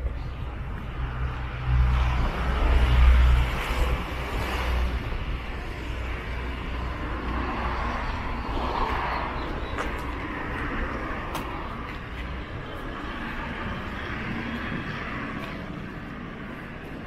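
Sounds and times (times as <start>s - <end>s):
traffic engine rumble and road noise: 0.0s - 17.0s.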